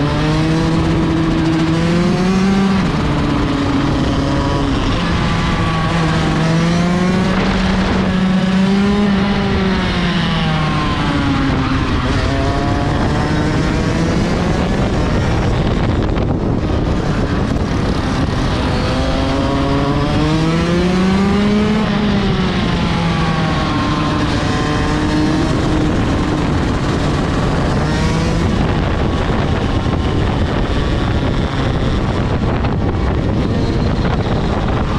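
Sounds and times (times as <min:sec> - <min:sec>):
kart engine revving: 0:00.0 - 0:34.9
rushing wind noise: 0:00.0 - 0:34.9.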